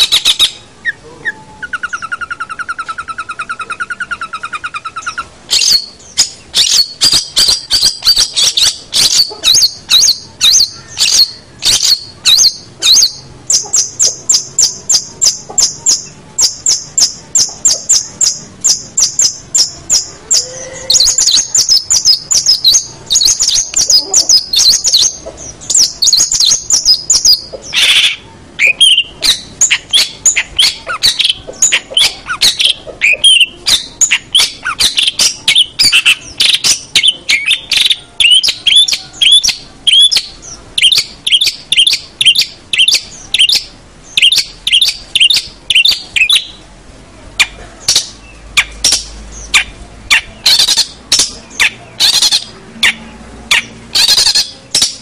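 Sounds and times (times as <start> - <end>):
bird singing chirps and trills: 0.0 - 46.7, 47.4 - 55.0.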